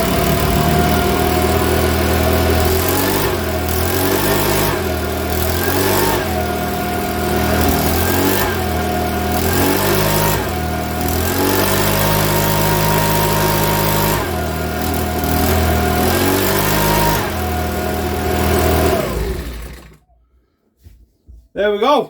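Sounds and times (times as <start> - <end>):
leaf blower engine revving: 0.0 - 20.1.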